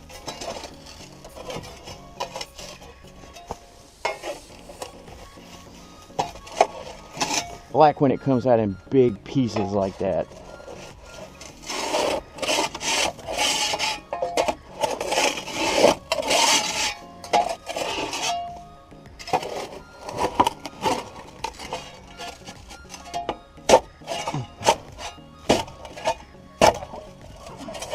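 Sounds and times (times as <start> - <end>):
dirt scraping from excavator track: 0.0 - 8.6, 9.3 - 18.6, 19.2 - 27.9
background music: 0.0 - 27.9.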